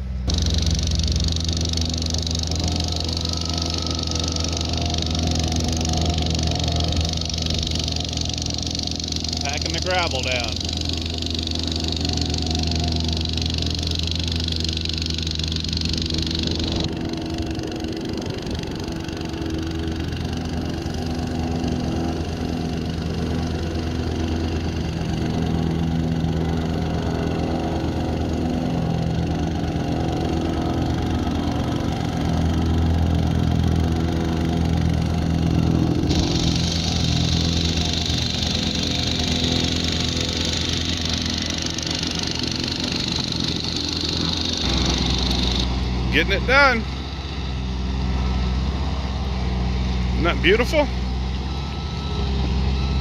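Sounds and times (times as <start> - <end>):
plate compactor on gravel: 0.0 - 53.0.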